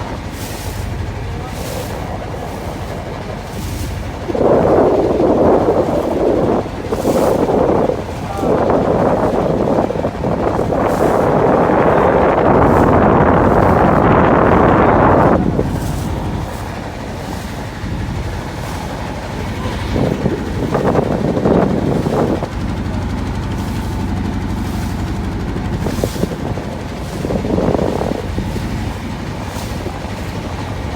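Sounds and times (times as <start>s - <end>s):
low engine rumble: 0.0s - 30.9s
wind buffeting microphone: 0.0s - 30.9s.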